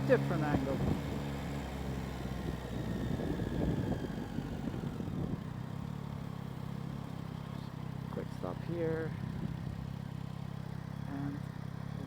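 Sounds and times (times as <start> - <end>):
wind and road rumble: 0.0 - 10.4
motorcycle engine idling: 0.0 - 12.0.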